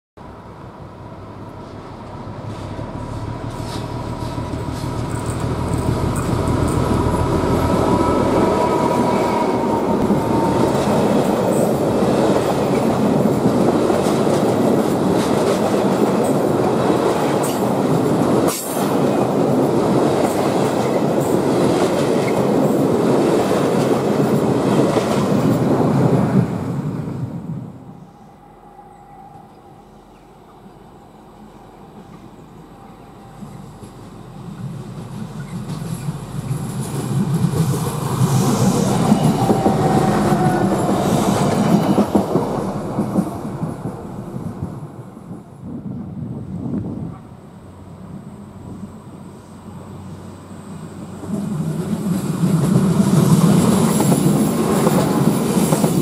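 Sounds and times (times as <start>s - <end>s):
train wheels rumbling on rails: 0.3s - 47.2s, 50.9s - 56.0s.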